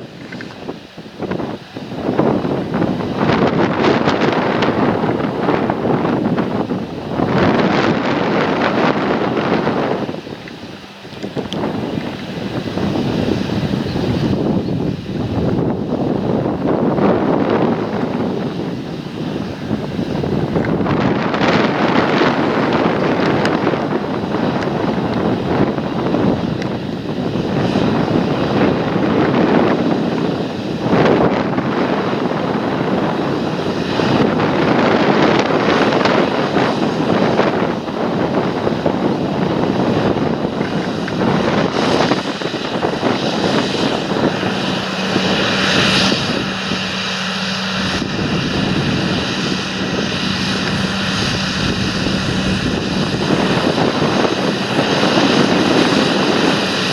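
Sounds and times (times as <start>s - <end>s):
rushing noise: 0.0s - 56.9s
steady low hum: 0.0s - 56.9s.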